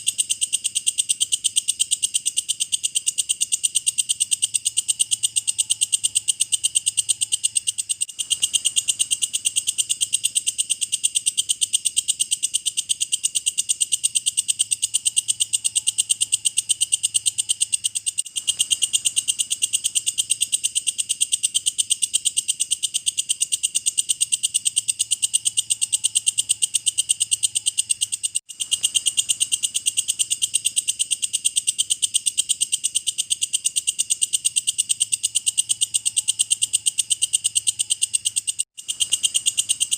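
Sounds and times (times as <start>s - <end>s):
insect shrill chirping: 0.0s - 39.9s.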